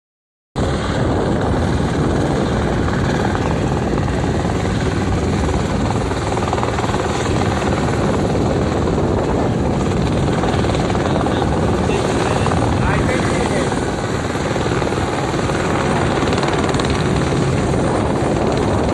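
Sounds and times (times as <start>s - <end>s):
helicopter rotor and turbine noise: 0.6s - 18.9s.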